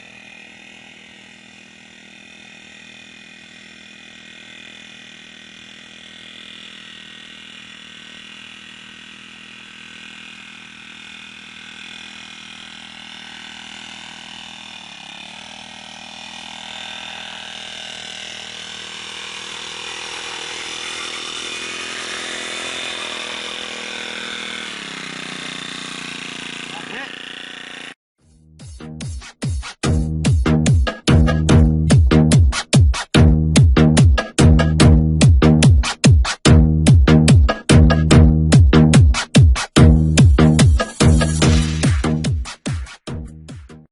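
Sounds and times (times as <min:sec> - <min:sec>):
brush cutter engine running: 0:00.0 - 0:28.0, 0:29.8 - 0:42.8.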